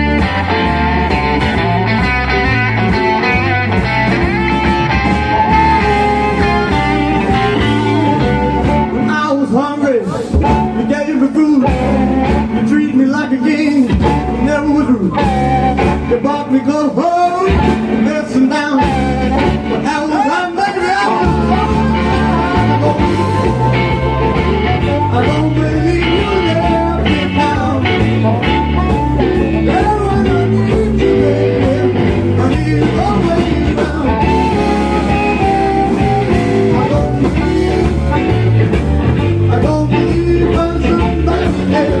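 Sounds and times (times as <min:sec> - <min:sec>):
heavy bass line: 0:00.0 - 0:16.4, 0:17.4 - 0:42.0
blues-rock band playing: 0:00.0 - 0:42.0
person singing: 0:05.0 - 0:38.3, 0:39.4 - 0:42.0.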